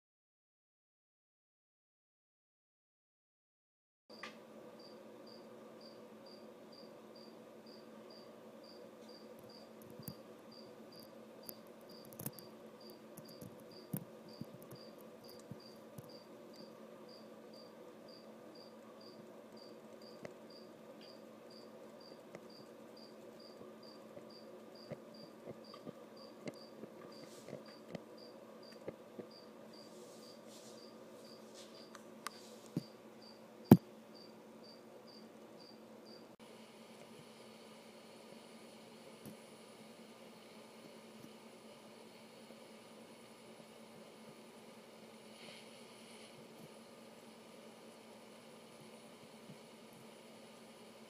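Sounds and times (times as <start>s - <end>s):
faint steady hum: 4.1s - 51.0s.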